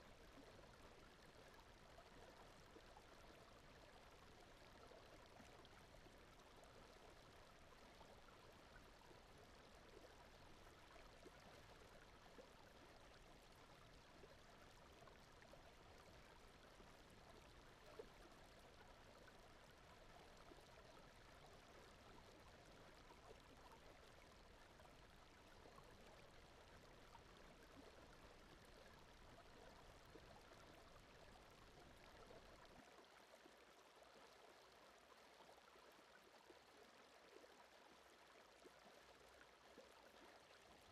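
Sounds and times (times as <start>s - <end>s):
flowing stream water: 0.0s - 40.9s.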